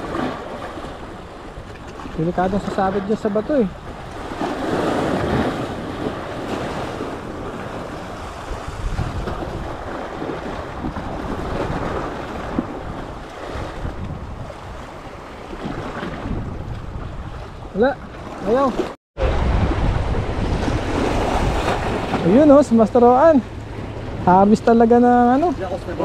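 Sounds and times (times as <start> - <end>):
sea surf washing in: 0.0 - 26.0
wind rumbling on microphone: 0.0 - 26.0.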